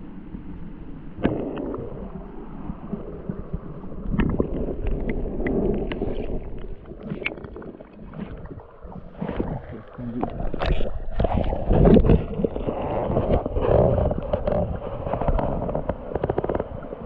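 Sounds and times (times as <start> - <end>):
river water sloshing and splashing: 1.1 - 17.0.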